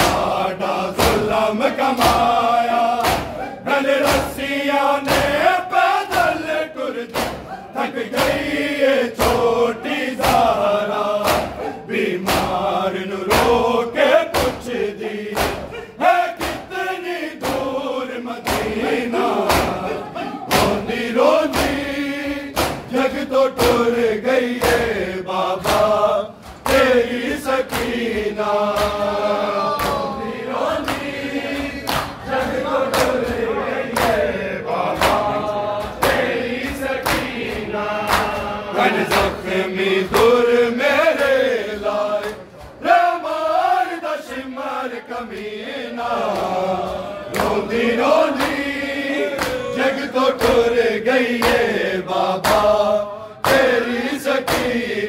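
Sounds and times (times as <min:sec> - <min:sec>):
hands slapping chests: 0:00.0 - 0:15.8, 0:16.4 - 0:16.8, 0:17.4 - 0:17.8, 0:18.4 - 0:24.0, 0:24.6 - 0:25.0, 0:25.6 - 0:42.8, 0:46.2 - 0:49.7, 0:50.3 - 0:52.8, 0:53.4 - 0:55.0
men chanting in unison: 0:00.0 - 0:55.0.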